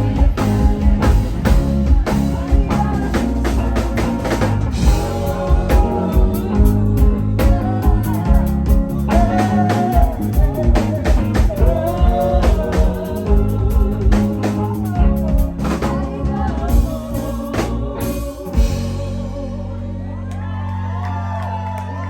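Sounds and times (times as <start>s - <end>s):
live rock band playing: 0.0s - 20.3s
person singing: 0.0s - 22.0s.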